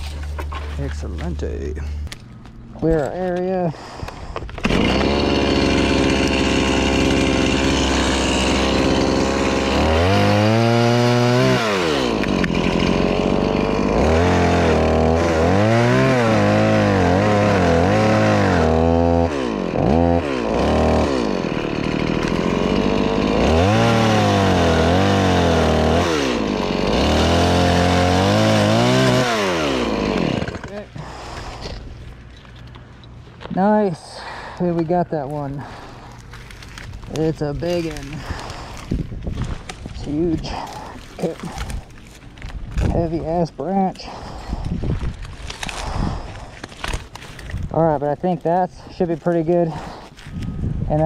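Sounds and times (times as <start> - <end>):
chainsaw cutting wood: 2.1 - 50.5.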